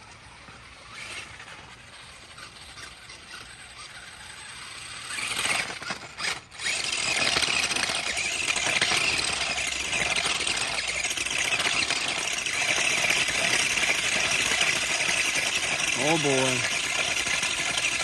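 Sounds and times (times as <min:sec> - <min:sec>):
toy truck motor whining: 0:00.0 - 0:18.0.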